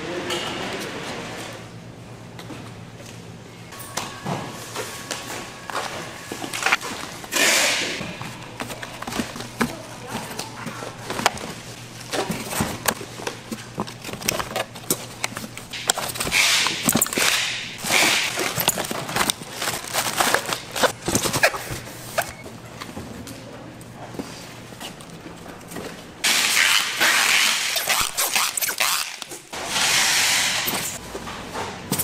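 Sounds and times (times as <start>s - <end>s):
steady low hum: 0.0s - 29.7s.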